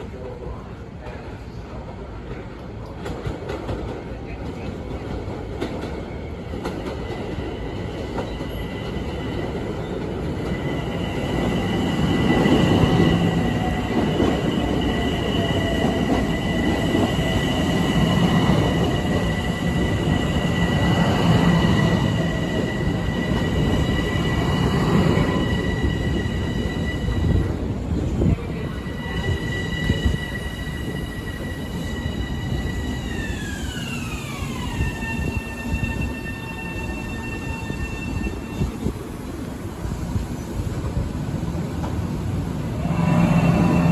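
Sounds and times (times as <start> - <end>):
train rail rumble: 0.0 - 43.9
train high whine: 6.0 - 43.9.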